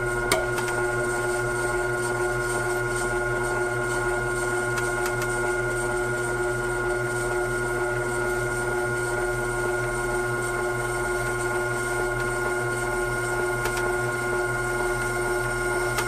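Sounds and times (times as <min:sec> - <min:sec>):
grinder motor humming and whining: 0:00.0 - 0:16.0.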